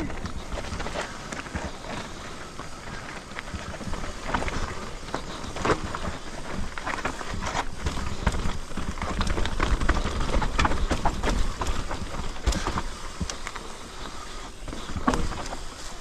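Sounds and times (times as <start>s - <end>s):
bike rattling knocks and clicks: 0.0s - 16.0s
bike tyres over stones and roots: 0.0s - 16.0s.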